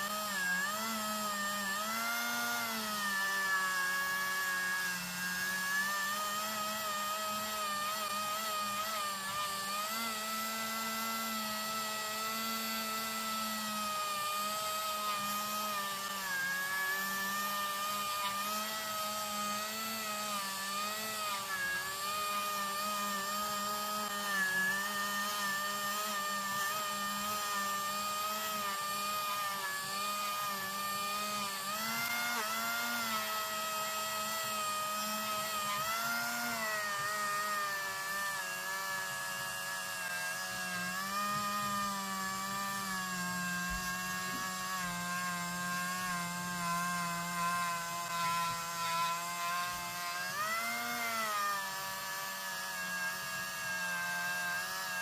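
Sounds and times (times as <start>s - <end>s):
electric rotary tool motor whine: 0.0s - 55.0s.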